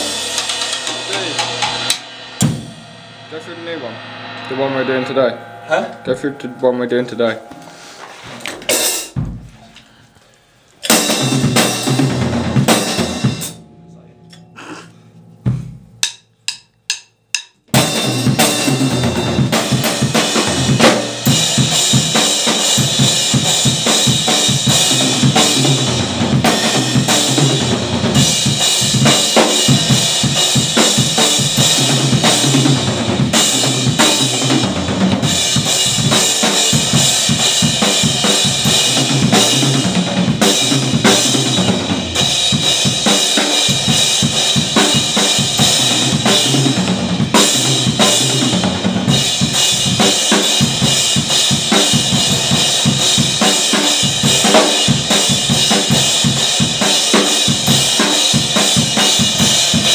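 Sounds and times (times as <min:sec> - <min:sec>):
drum kit playing: 0:00.0 - 0:10.0, 0:10.8 - 0:59.9.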